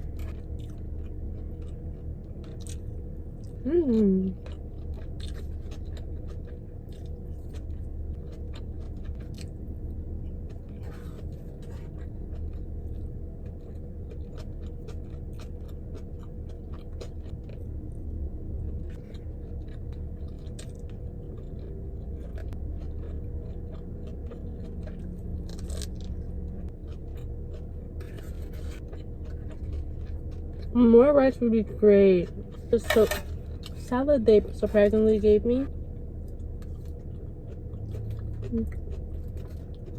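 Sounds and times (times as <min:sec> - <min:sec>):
chewing and crunching food: 0:00.0 - 0:39.9
low hum: 0:00.0 - 0:39.9.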